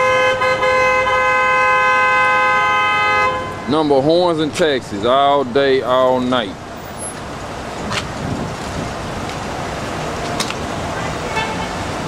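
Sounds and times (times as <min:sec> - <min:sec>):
road traffic and idling vehicles: 0:00.0 - 0:12.0.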